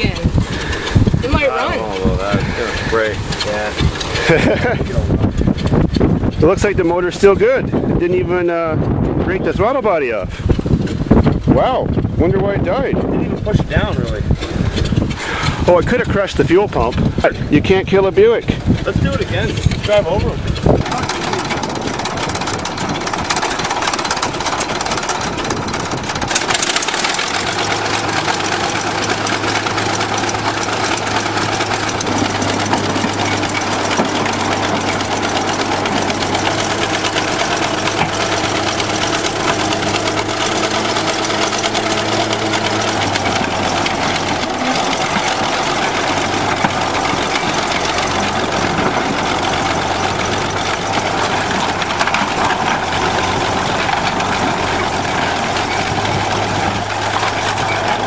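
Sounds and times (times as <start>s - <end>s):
bulldozer diesel engine drone: 0.0s - 58.0s
higher steady hum: 0.0s - 58.0s.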